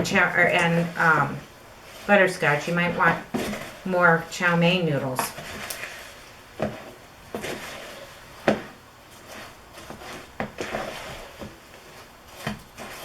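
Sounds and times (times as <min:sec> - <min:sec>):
spatula scraping sticky mixture: 0:00.0 - 0:13.0.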